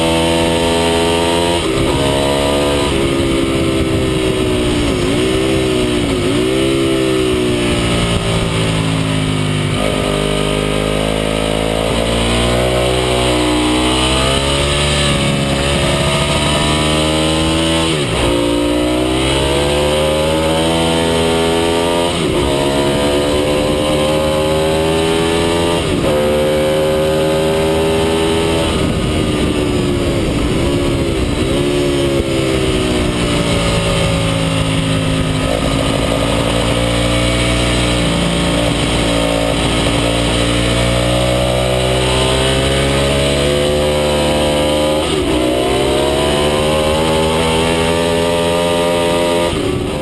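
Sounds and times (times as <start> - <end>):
motorcycle engine at high revs: 0.0 - 50.0
wind noise: 0.0 - 50.0.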